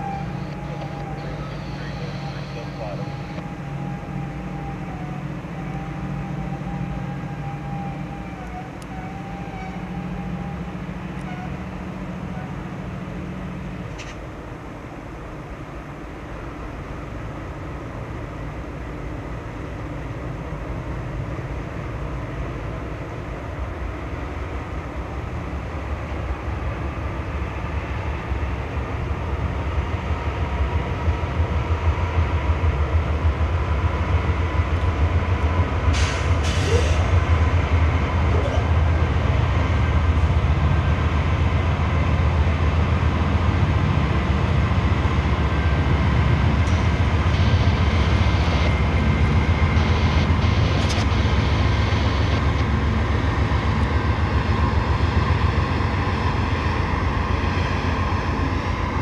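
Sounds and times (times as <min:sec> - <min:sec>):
locomotive engine rumble: 0:00.0 - 0:59.0.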